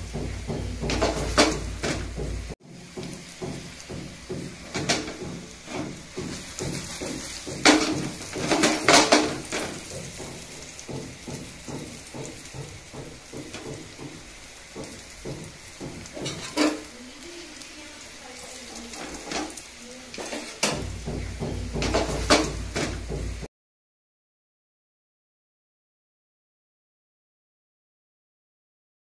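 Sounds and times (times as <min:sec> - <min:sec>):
oil crackling in a pan: 0:00.0 - 0:23.5.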